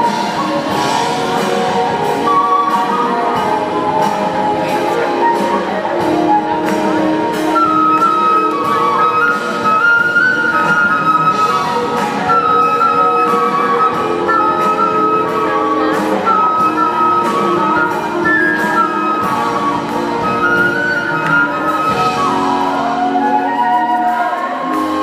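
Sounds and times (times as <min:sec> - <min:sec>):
high melodic lead line: 0:00.0 - 0:23.6
drums: 0:00.0 - 0:25.0
live pop band playing: 0:00.0 - 0:25.0.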